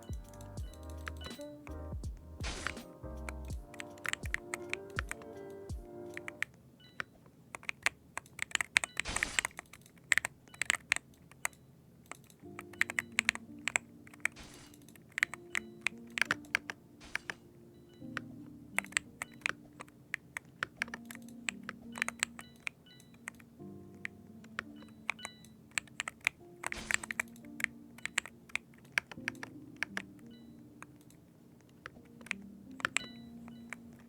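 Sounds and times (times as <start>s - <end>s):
soft background music: 0.0s - 7.8s, 10.4s - 34.0s
keyboard typing: 0.0s - 34.0s.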